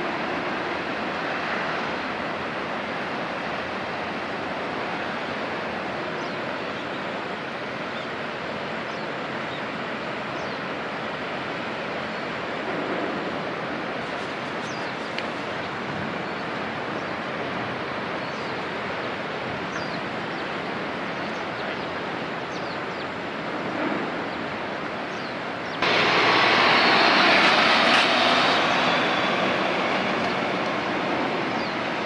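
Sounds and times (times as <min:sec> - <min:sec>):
sea water rushing: 0:00.0 - 0:32.0
wind: 0:00.0 - 0:32.0.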